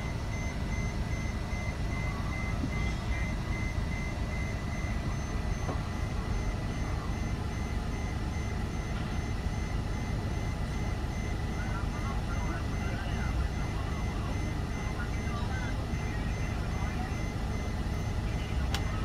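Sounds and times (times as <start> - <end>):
low rumble of airport machinery: 0.0 - 19.0.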